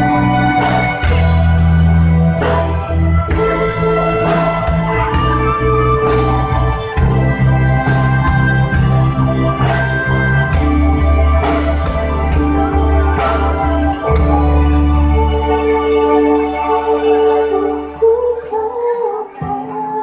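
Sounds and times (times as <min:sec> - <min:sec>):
steady beat: 0:00.0 - 0:16.6
electronic keyboard: 0:00.0 - 0:20.0
violin ensemble pop ballad: 0:00.0 - 0:20.0.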